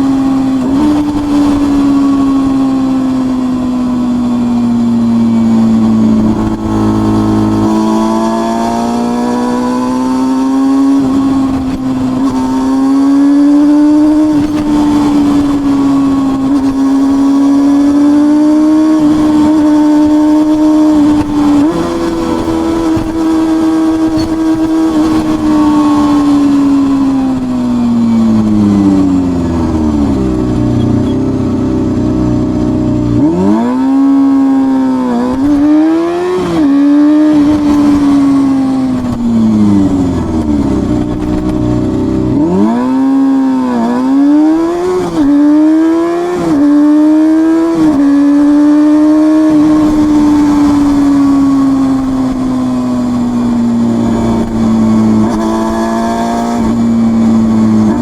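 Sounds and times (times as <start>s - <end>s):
motorcycle exhaust at high revs: 0.0s - 58.0s.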